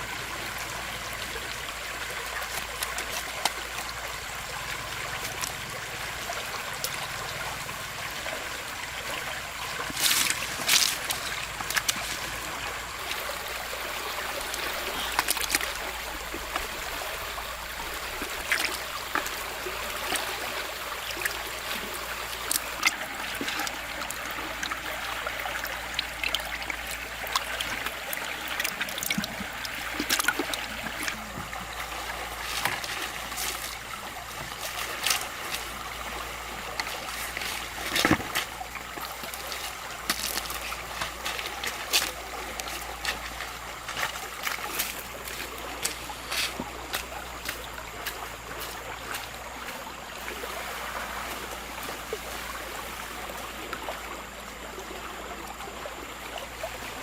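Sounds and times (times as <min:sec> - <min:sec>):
stream water running: 0:00.0 - 0:57.0
splashes and knocks: 0:02.0 - 0:07.1, 0:09.6 - 0:52.4.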